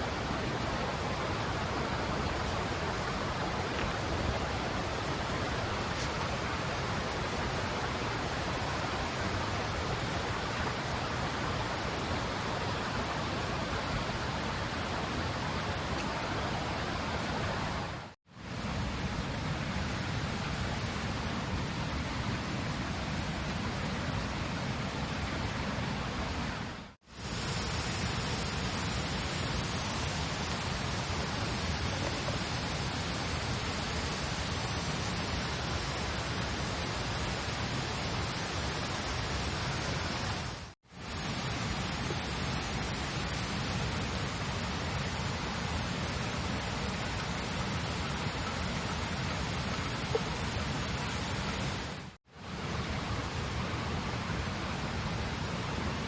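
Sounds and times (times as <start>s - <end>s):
steady rushing outdoor noise: 0.0s - 56.0s.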